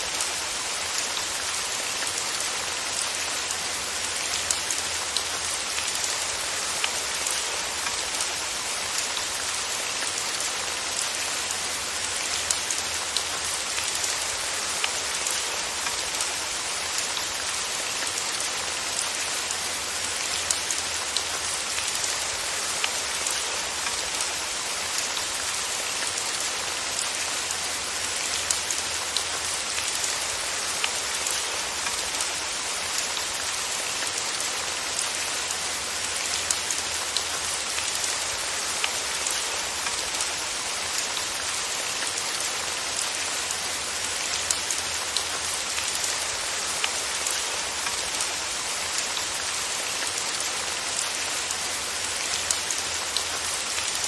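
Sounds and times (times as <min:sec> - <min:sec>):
rain hiss on a surface: 0:00.0 - 0:54.0.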